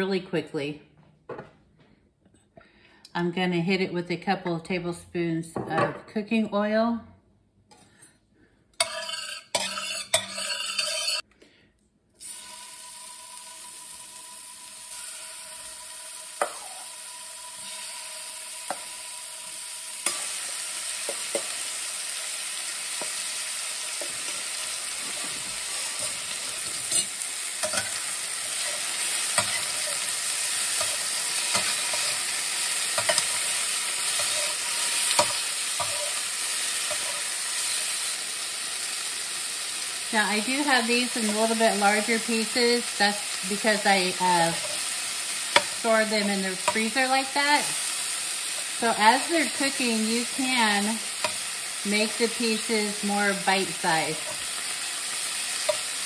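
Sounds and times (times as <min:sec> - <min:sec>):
chicken sizzling in oil: 0:08.8 - 0:11.2, 0:12.2 - 0:56.0
metal spatula on skillet: 0:08.8 - 0:11.3, 0:12.2 - 0:39.6, 0:40.2 - 0:56.0.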